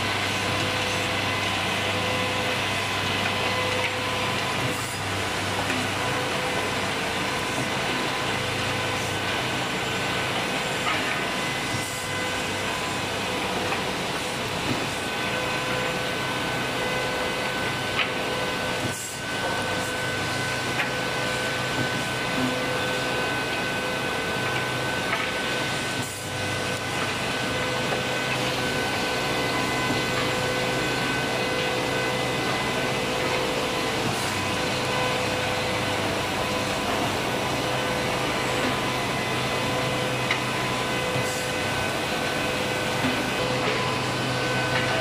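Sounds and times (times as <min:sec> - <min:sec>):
machine motor hum with whine: 0:00.0 - 0:45.0.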